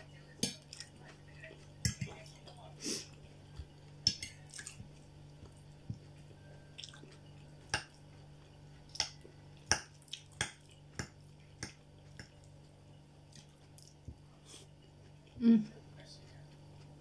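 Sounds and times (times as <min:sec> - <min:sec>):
steady low hum: 0:00.0 - 0:17.0
person chewing food: 0:00.4 - 0:17.0.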